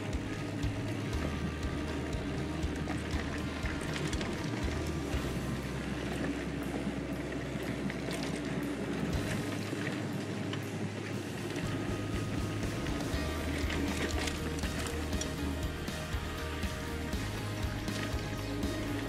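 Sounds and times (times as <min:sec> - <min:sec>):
bike rattling and knocking: 0:00.0 - 0:06.3, 0:07.7 - 0:10.0, 0:11.6 - 0:19.0.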